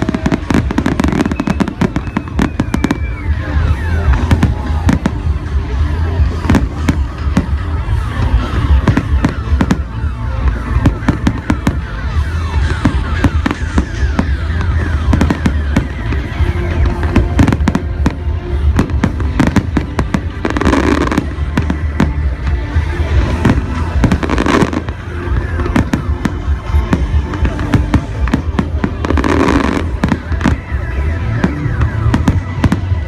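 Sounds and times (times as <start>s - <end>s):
fireworks bursting and crackling: 0.0s - 33.0s
music playing: 0.0s - 33.0s.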